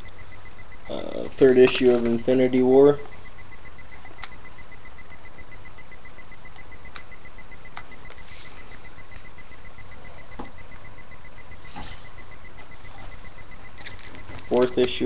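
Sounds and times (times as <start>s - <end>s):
microphone hiss and hum: 0.0s - 15.0s.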